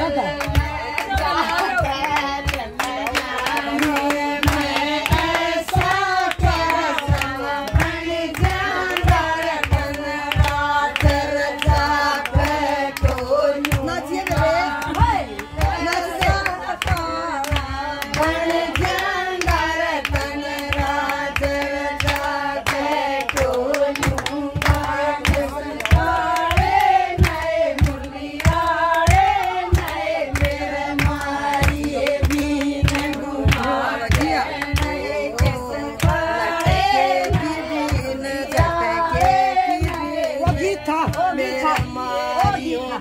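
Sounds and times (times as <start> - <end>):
hand-clapping: 0.0 - 43.0
women singing together: 0.0 - 43.0.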